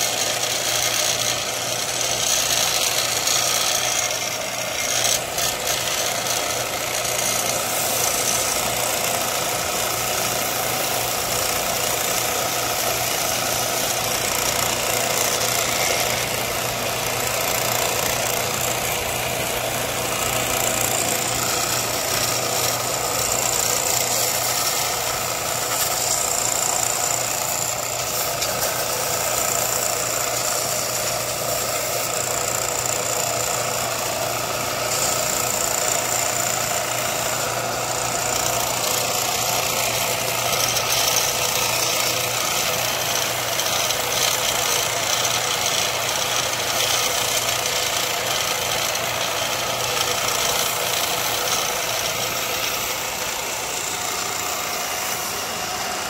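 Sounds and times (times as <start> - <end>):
power tool grinding: 0.0 - 56.0.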